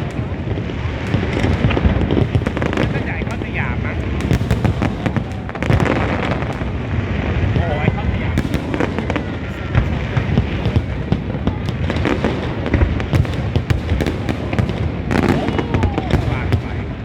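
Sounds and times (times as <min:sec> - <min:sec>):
rumble of fireworks booms: 0:00.0 - 0:17.0
sharp firework cracks: 0:00.0 - 0:17.0.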